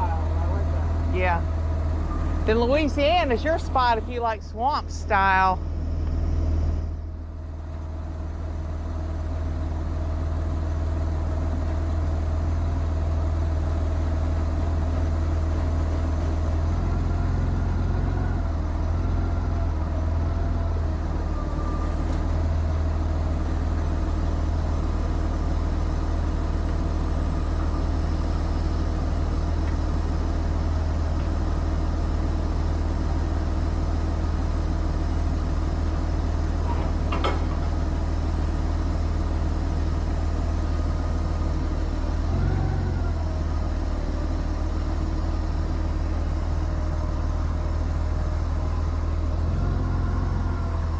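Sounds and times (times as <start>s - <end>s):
truck engine drone from cab: 0.0s - 50.9s.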